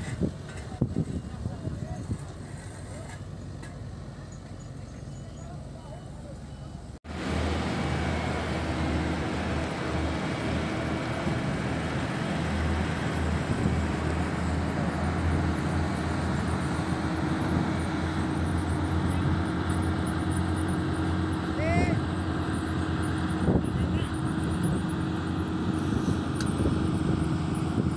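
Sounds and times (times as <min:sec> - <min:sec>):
diesel machinery engine drone: 0:00.0 - 0:27.9.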